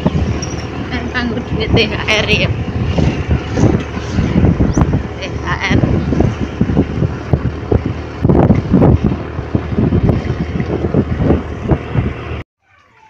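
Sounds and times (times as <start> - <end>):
wind buffeting microphone: 0.0 - 12.4
motorbike engine rumble: 0.0 - 13.0.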